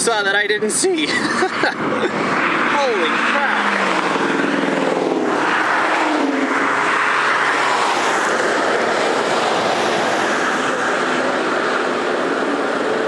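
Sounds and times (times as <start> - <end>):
loud rushing noise: 1.6 - 13.0.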